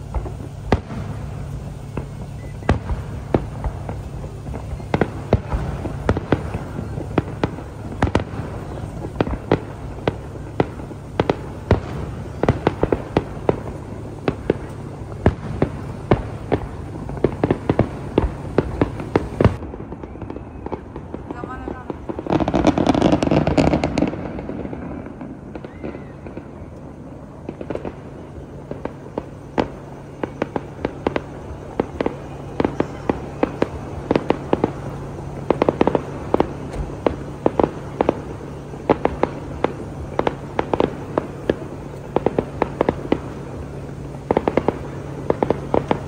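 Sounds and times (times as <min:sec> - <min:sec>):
firework boom: 0:00.0 - 0:46.0
firework pops and crackles: 0:00.0 - 0:46.0
low hum: 0:00.0 - 0:46.0.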